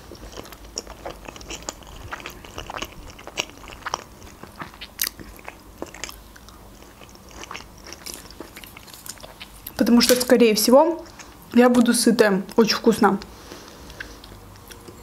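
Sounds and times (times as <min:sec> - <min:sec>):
person chewing wetly: 0:00.0 - 0:09.8, 0:11.0 - 0:11.6, 0:13.3 - 0:15.0.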